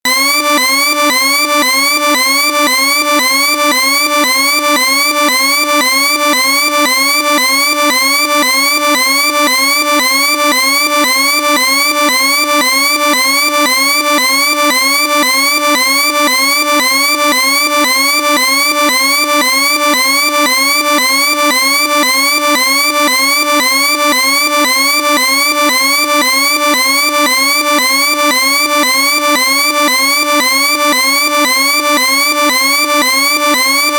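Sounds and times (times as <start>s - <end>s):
electronic warning siren: 0.1s - 33.9s.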